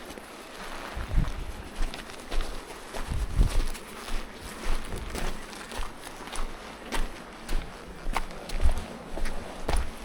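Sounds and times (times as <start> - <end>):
footsteps walking: 0.0 - 10.0.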